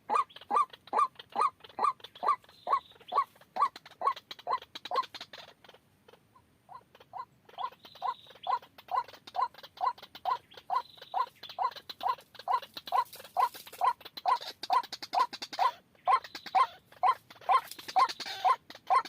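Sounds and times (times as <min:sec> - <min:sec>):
waterhen calling harsh notes: 0:00.0 - 0:05.5, 0:06.8 - 0:19.0.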